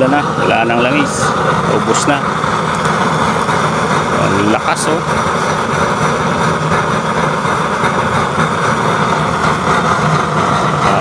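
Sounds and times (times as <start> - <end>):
oil burner roaring: 0.0 - 11.0.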